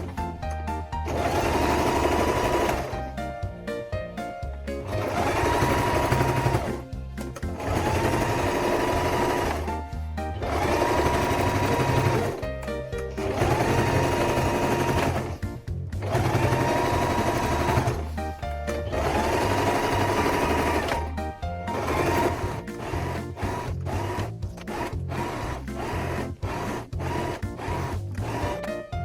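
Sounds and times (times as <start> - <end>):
background music: 0.0 - 29.0
sewing machine stitching: 1.0 - 3.2, 4.8 - 29.0.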